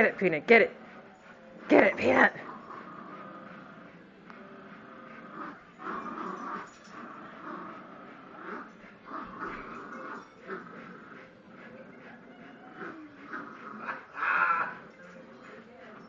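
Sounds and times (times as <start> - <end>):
dogs vocalizing while playing: 0.8 - 16.0.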